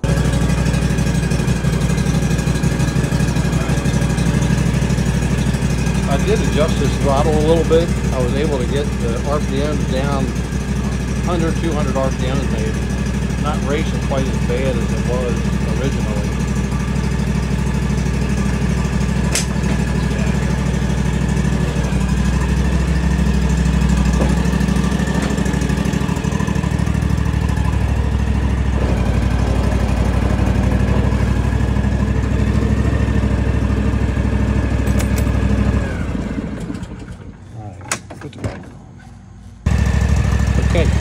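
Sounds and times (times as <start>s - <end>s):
lawn tractor engine running: 0.0s - 41.0s.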